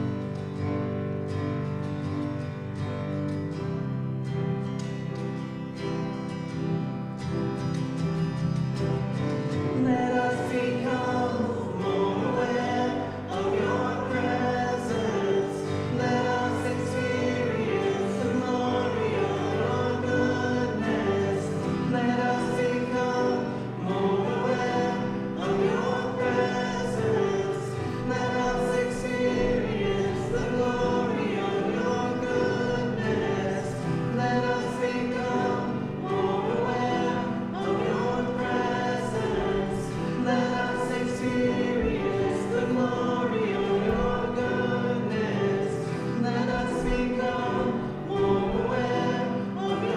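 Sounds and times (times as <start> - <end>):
group singing a hymn: 8.0 - 49.9.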